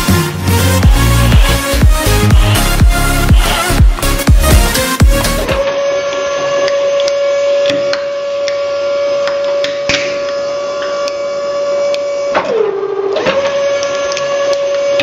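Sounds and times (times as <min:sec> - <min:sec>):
hydraulic pump whining: 0:00.0 - 0:15.0.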